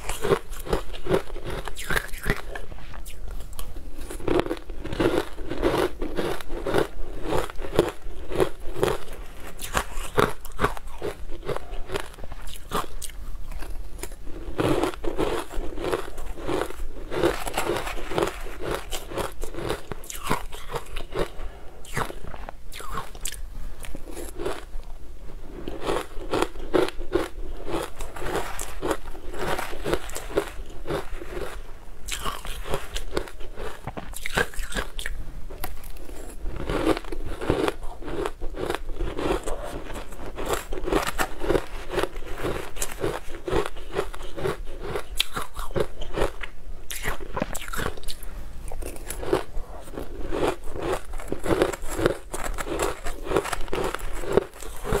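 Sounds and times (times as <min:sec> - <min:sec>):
ice being bitten and chewed: 0:00.0 - 0:24.7, 0:25.5 - 0:55.0.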